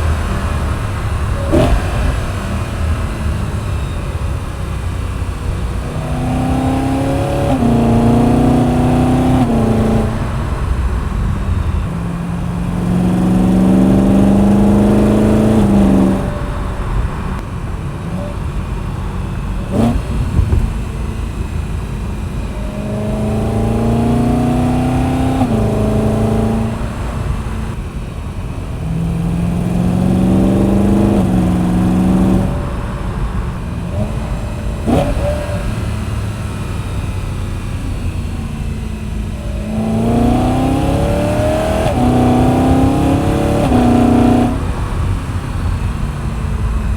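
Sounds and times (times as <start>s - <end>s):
car engine accelerating through gears: 0.0s - 46.9s.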